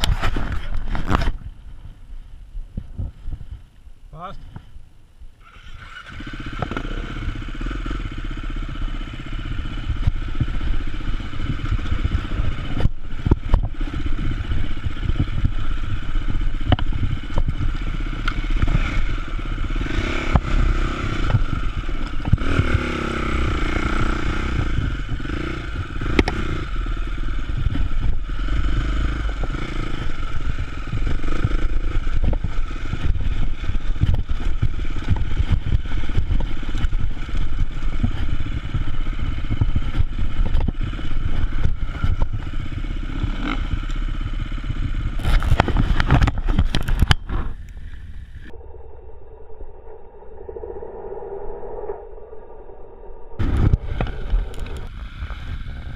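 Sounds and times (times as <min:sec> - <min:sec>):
motorcycle engine revving: 0:05.4 - 0:55.9.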